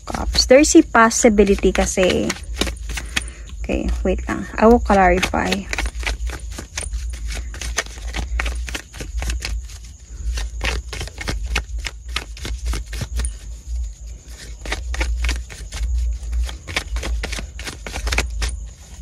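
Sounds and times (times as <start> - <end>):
cards being shuffled: 0.0 - 19.0
steady low hum: 0.0 - 19.0.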